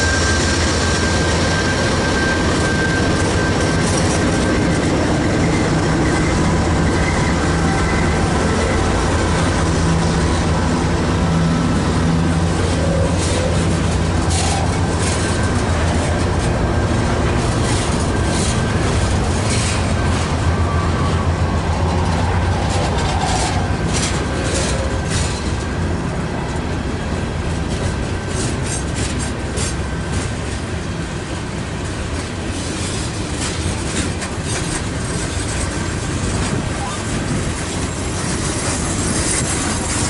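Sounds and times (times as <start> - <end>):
train wheels rumbling on rail: 0.0 - 40.0
wheels clicking over rail joints: 2.5 - 20.5, 21.6 - 40.0.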